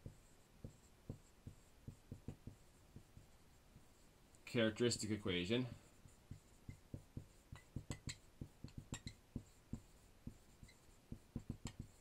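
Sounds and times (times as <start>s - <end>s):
marker writing on whiteboard: 0.0s - 12.0s.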